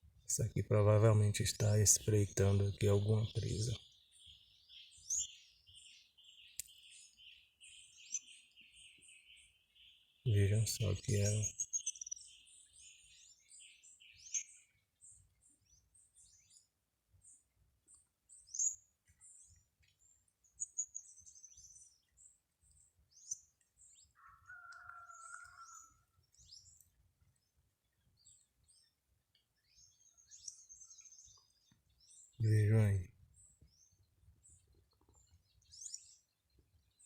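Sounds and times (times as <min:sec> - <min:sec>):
low steady bird call: 0:00.0 - 0:37.0
birds chirping and singing: 0:00.1 - 0:37.0.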